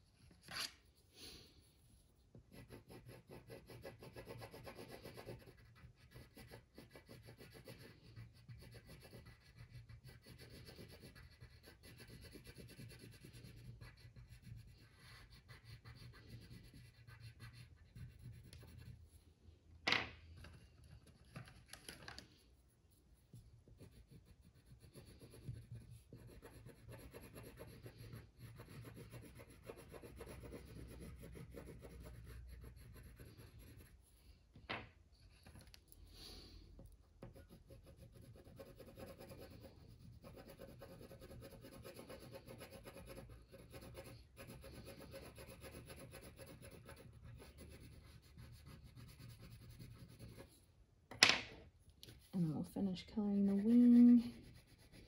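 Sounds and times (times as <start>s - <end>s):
crayon rubbing on paper: 1.7s - 19.2s, 23.2s - 34.2s, 37.3s - 50.6s, 52.1s - 55.0s.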